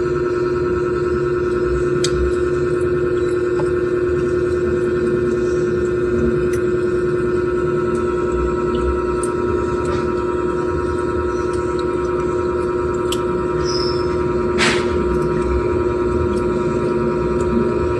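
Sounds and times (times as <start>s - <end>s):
loud steady hum: 0.0s - 17.9s.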